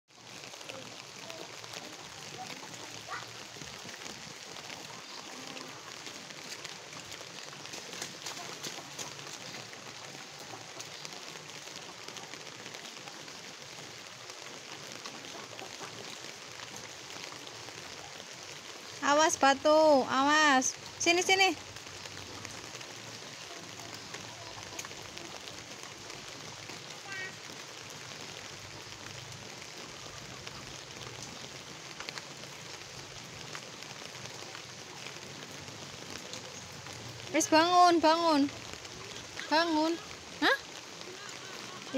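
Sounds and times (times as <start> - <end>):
light rain on puddle: 0.1 - 41.9.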